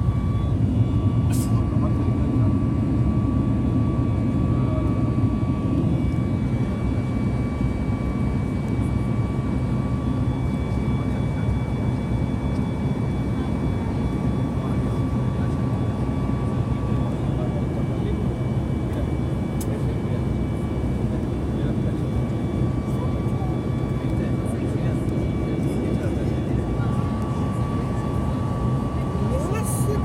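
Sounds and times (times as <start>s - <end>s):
airliner cabin roar: 0.0s - 30.0s.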